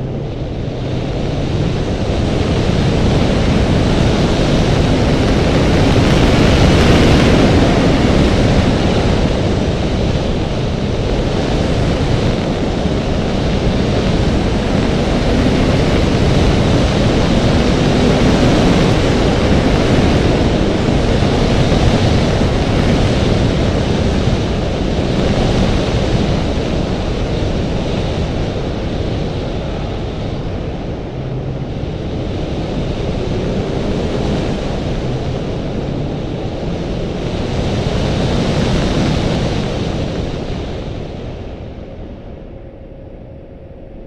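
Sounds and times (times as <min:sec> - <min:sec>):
wind rushing on microphone: 0:00.0 - 0:44.0.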